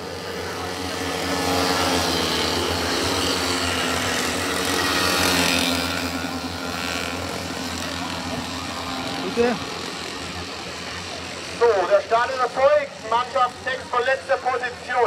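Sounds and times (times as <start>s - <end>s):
small motorbike engines passing: 0.0s - 15.0s.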